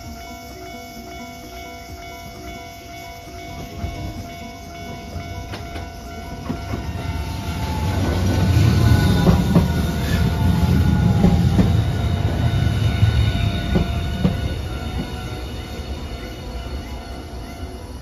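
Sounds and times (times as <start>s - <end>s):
level crossing warning bell: 0.0s - 18.0s
tram passing with rumble: 0.0s - 18.0s
tram whine falling in pitch: 0.0s - 18.0s.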